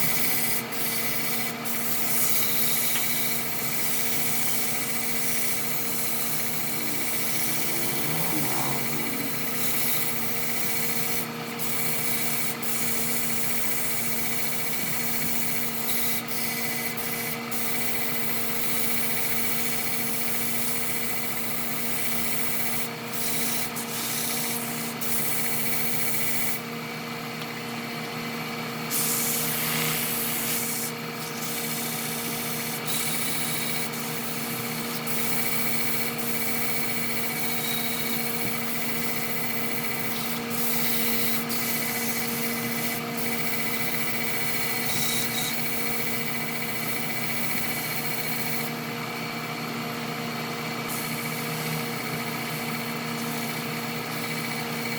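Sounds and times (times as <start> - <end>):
wood lathe humming: 0.0 - 26.7, 27.3 - 48.9, 49.9 - 54.9.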